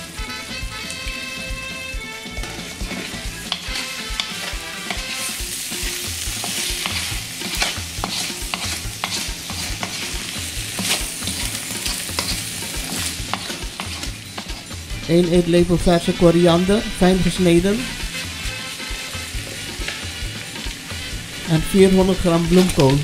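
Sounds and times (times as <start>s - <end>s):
sauce sizzling: 0.0s - 23.0s
wooden spoon scraping a wok: 0.1s - 23.0s.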